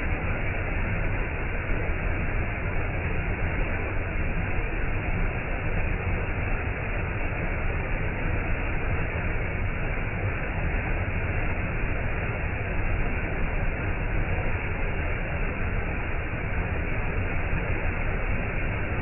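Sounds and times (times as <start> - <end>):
stream of water flowing: 0.0 - 19.0.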